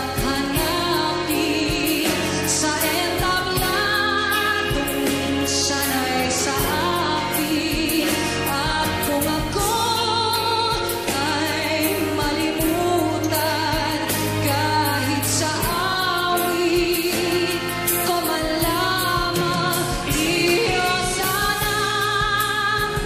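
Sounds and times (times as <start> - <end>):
live instrumental accompaniment: 0.0 - 23.0
woman singing with vibrato: 0.0 - 23.0.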